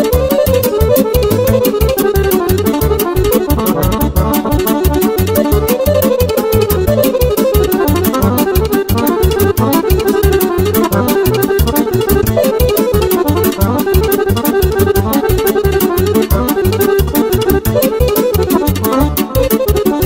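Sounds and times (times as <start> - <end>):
accordion playing folk-dance tune: 0.0 - 20.0
keyboard bass and drum beat: 0.0 - 20.0.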